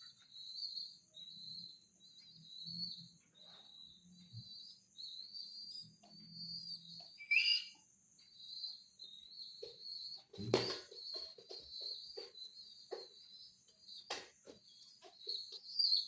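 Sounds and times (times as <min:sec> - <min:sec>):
pigeon squab peeping: 0:00.0 - 0:16.0.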